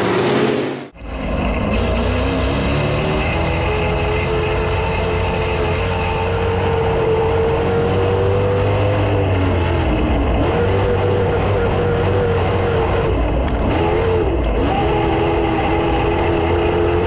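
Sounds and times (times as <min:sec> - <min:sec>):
heavy low rumble: 0:00.0 - 0:14.7
race car engine under throttle: 0:00.0 - 0:17.0.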